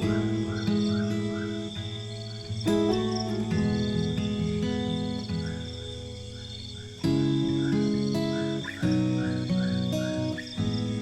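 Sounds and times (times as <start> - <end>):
night insects chirping: 0.0 - 11.0
slow calm instrumental music: 0.0 - 11.0.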